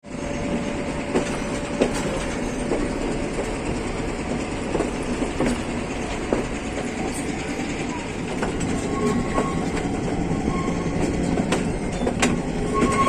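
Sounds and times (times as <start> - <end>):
train rumbling along track: 0.0 - 13.0
wheels clicking over rails: 0.5 - 13.0.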